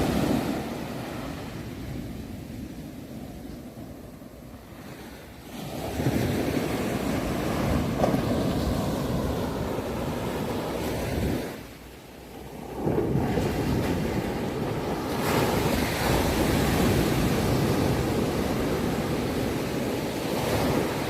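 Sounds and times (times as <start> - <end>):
sea waves breaking on shore: 0.0 - 21.0.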